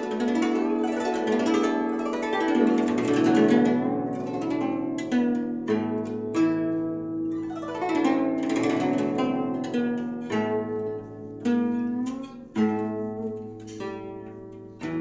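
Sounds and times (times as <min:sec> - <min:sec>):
plucked zither playing: 0:00.0 - 0:15.0.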